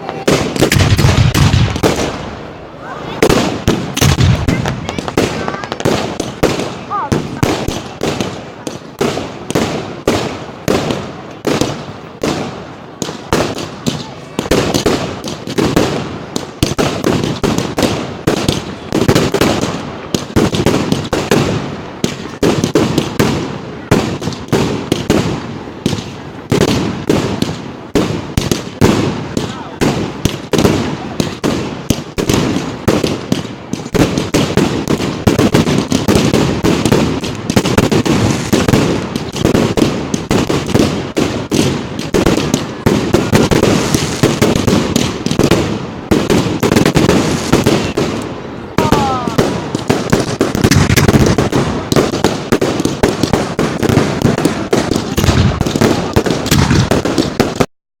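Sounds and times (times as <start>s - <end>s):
fireworks bangs and crackles: 0.0s - 57.7s.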